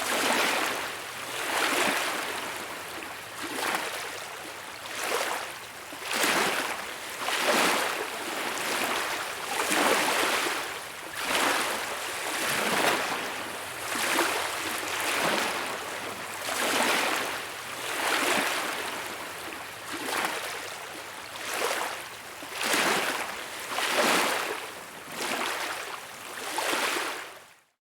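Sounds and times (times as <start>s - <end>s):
small waves washing onto beach: 0.0s - 27.4s.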